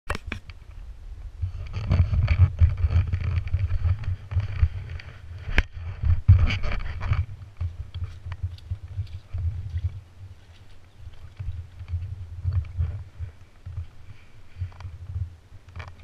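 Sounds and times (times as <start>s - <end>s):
camera rubbing and bumping: 1.4s - 16.0s.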